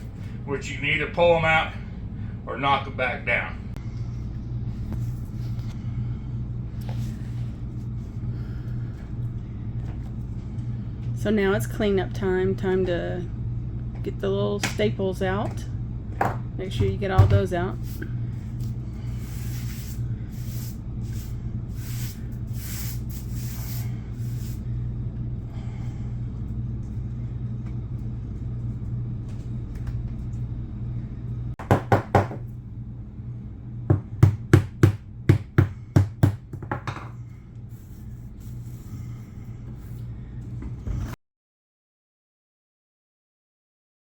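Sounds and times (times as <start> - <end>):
steady low hum: 0.0 - 41.2.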